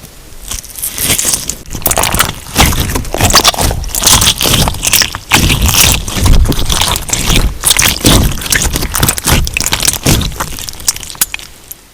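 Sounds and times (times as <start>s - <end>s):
slime crackling and squishing: 0.4s - 11.9s.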